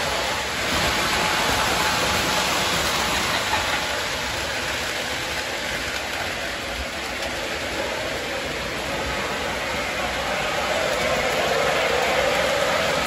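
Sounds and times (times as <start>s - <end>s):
model train rolling on track: 0.0s - 13.0s.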